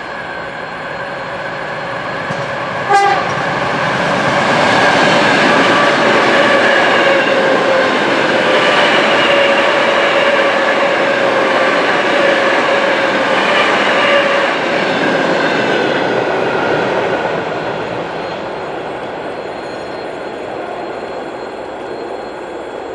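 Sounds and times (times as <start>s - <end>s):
train wheels rushing on rails: 0.0s - 22.9s.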